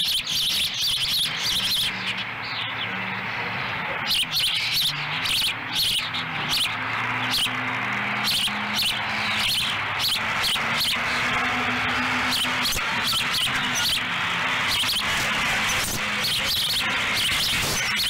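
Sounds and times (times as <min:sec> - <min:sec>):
osprey high chirps: 0:00.0 - 0:02.8, 0:04.0 - 0:18.0.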